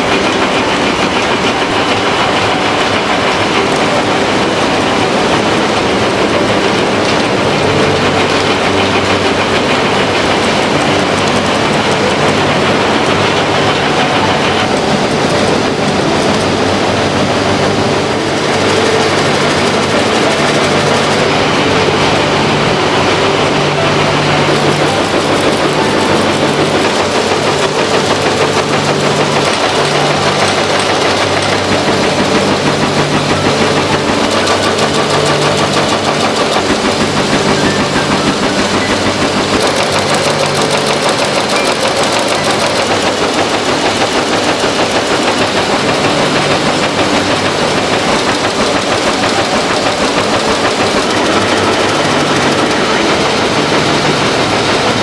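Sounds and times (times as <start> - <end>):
weaving looms clattering: 0.0 - 55.0.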